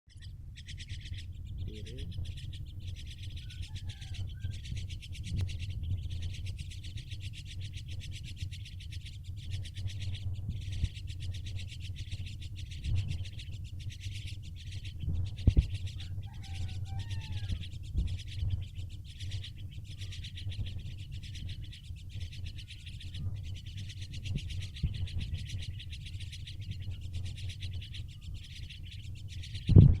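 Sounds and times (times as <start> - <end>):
starling whistled calls: 0.1 - 30.0
steady low hum: 0.1 - 30.0.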